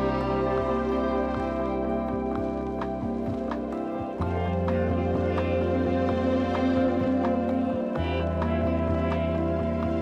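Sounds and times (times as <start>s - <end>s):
soft chords background music: 0.0s - 10.0s.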